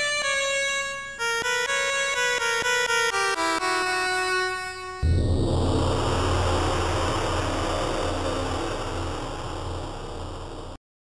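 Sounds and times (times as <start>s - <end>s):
tracker module music: 0.2s - 10.8s.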